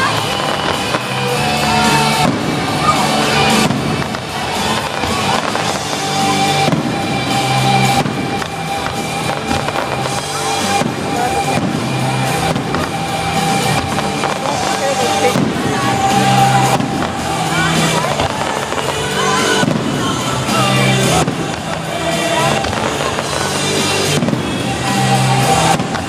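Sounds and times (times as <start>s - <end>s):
fireworks banging: 0.0s - 26.0s
music: 0.0s - 26.0s.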